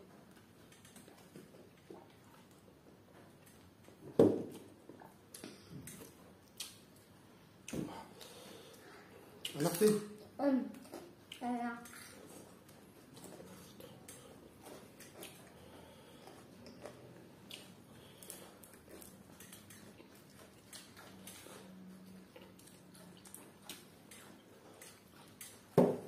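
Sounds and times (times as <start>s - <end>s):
chewing and mouth clicks: 0.1s - 25.8s.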